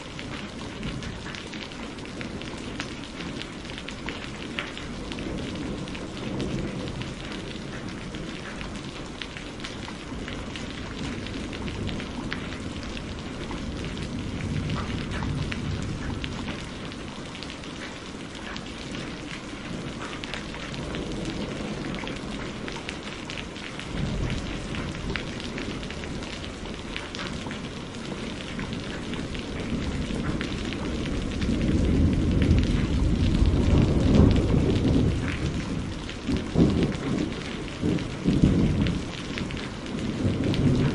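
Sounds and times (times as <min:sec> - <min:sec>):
rain pattering: 0:00.0 - 0:40.9
rolling thunder: 0:04.2 - 0:08.8, 0:10.0 - 0:17.1, 0:18.9 - 0:40.9.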